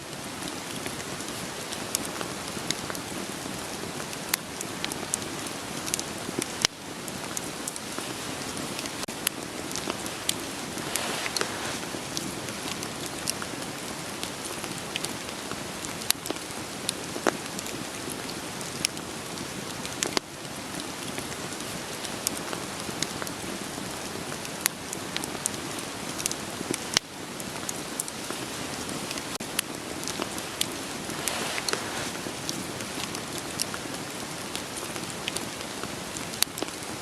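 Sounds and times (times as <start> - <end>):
steady rain: 0.0 - 37.0
burning firewood crackling: 0.1 - 37.0.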